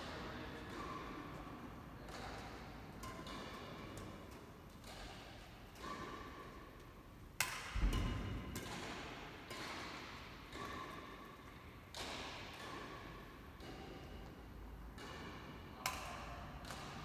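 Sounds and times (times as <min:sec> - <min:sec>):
badminton shuttlecock hits: 0:00.0 - 0:17.0.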